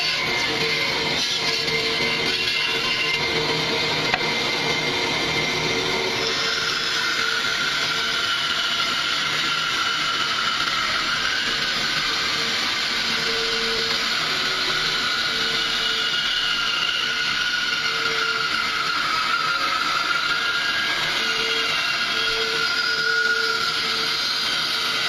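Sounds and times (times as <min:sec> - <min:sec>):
bandsaw cutting wood: 0:00.0 - 0:25.0.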